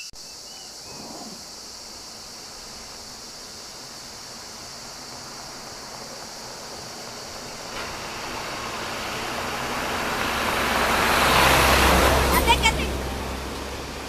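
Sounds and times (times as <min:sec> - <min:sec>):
bus engine and tyre noise: 0:00.8 - 0:14.0.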